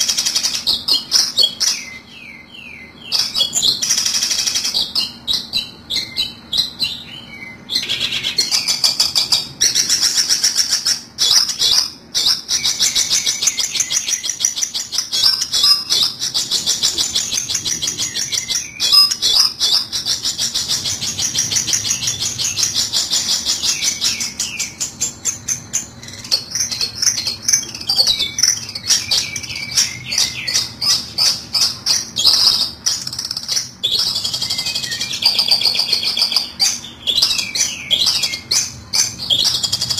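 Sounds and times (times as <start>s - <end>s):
high-pitched chattering bird chirps: 0.0s - 39.9s.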